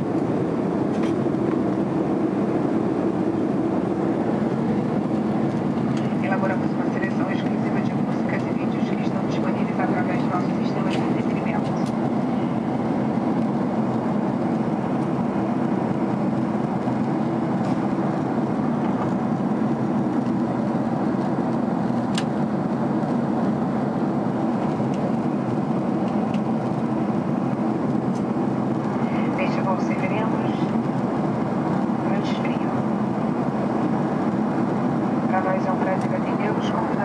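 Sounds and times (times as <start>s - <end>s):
aircraft cabin engine rumble: 0.0s - 37.0s.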